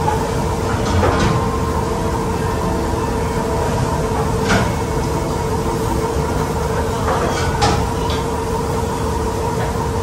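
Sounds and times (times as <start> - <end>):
restaurant room hum: 0.0 - 10.0.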